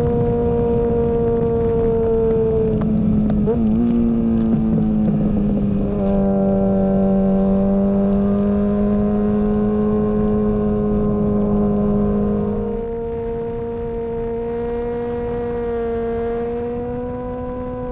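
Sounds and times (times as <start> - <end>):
motorcycle engine at high revs: 0.0 - 17.9.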